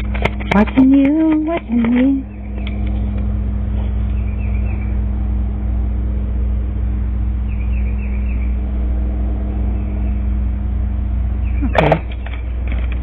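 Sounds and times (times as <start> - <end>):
constant low hum: 0.0 - 13.0
steady low rumble: 0.0 - 13.0.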